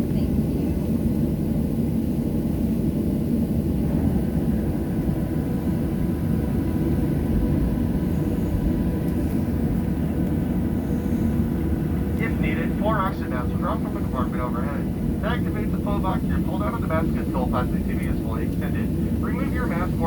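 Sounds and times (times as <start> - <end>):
airplane cabin rumble: 0.0 - 20.0
faint steady whine: 1.9 - 20.0.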